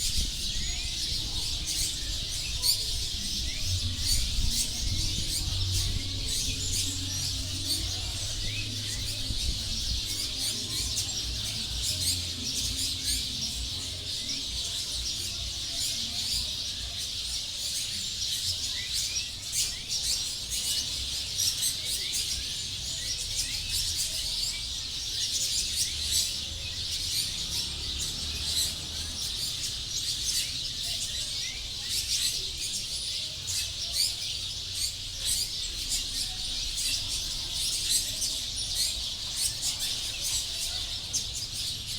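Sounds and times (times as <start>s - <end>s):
flock of small birds chirping: 0.0s - 41.9s.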